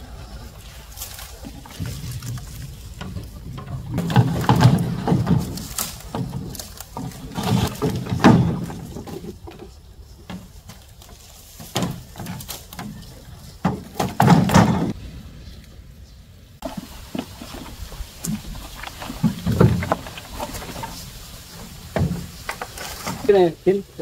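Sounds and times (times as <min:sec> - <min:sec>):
knocks and dull thumps: 0:01.4 - 0:15.0, 0:17.1 - 0:23.2.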